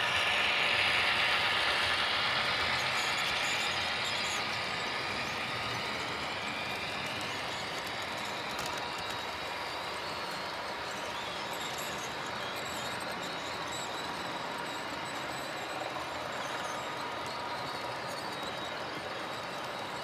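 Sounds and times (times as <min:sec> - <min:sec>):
model train motor whirring: 0:00.0 - 0:20.0
wheels rolling on rails: 0:00.0 - 0:20.0.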